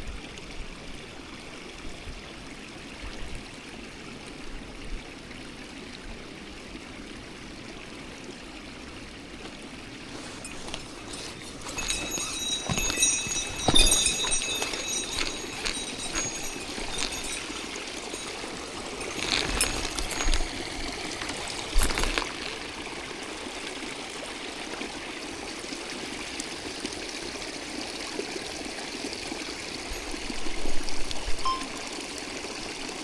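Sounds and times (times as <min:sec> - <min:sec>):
mountain stream running: 0:00.8 - 0:33.0.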